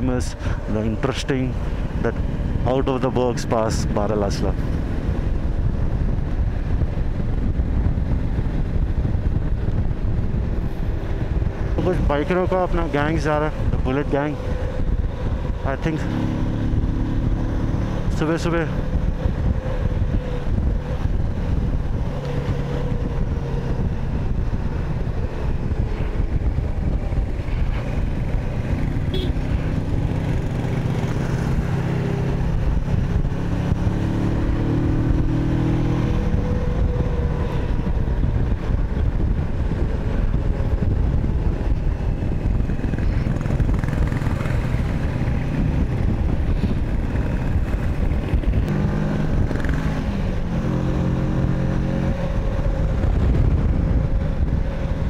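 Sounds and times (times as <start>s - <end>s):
road noise: 0.0s - 55.0s
motorcycle engine running: 3.8s - 55.0s.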